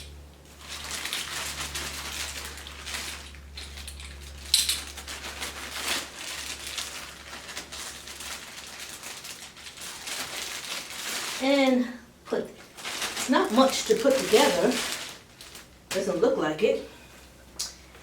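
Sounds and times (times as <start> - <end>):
packaging rustling: 0.5 - 11.8, 12.6 - 16.2.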